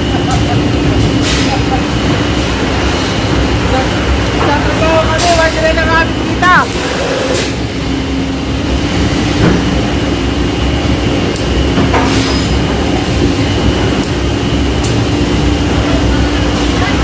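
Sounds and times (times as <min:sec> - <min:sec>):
industrial machinery hum: 0:00.0 - 0:17.0.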